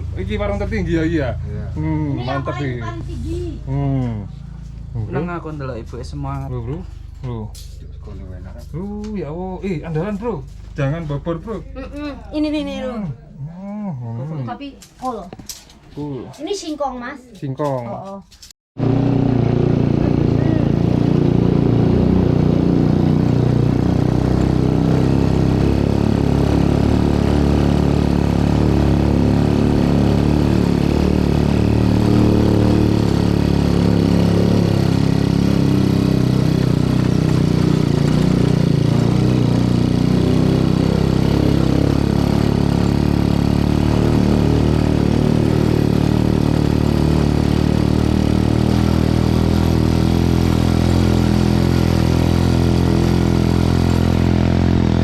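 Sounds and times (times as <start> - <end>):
motorcycle engine running: 0.0 - 13.2, 18.8 - 55.0.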